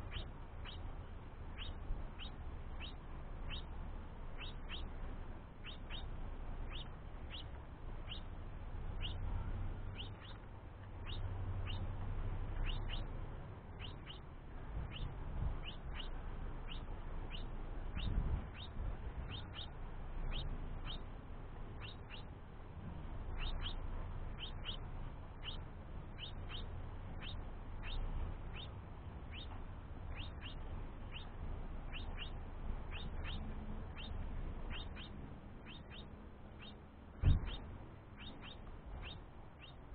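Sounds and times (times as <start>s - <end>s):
fledgling begging chirps: 0.0s - 22.4s, 23.2s - 39.9s.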